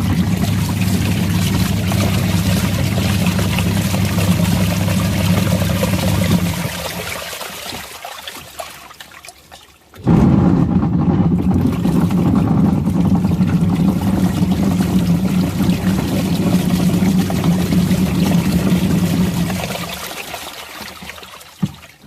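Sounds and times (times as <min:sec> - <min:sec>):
washing machine motor hum: 0:00.0 - 0:08.1, 0:10.0 - 0:22.0
water churning and splashing: 0:00.0 - 0:22.0.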